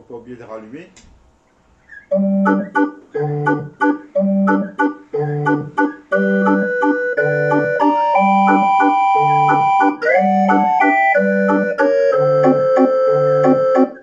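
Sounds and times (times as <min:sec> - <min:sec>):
electronic barrel organ tune: 0:01.9 - 0:14.0
held melody notes: 0:01.9 - 0:14.0
short chords: 0:02.0 - 0:14.0.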